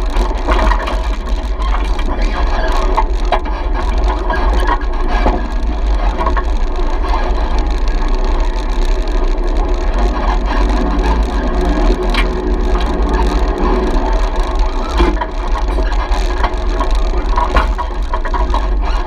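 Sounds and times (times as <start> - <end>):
off-road vehicle engine rumbling: 0.0 - 19.0
vehicle body rattling: 0.0 - 19.0.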